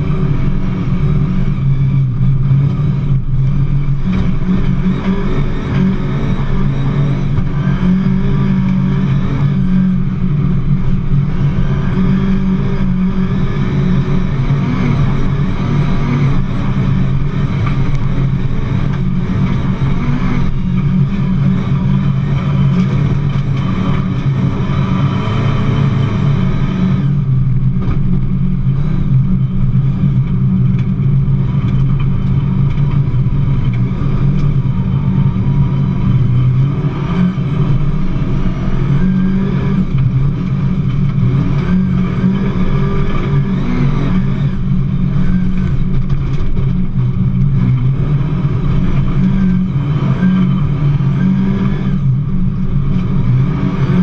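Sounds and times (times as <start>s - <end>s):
car engine running hard: 0.0s - 54.0s.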